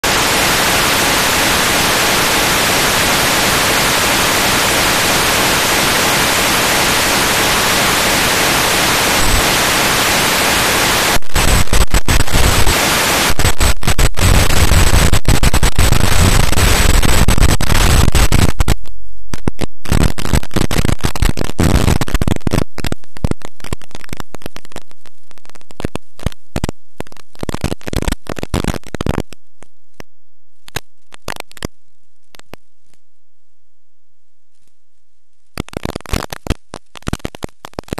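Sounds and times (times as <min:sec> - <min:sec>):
white noise static hiss: 0:00.0 - 0:37.9.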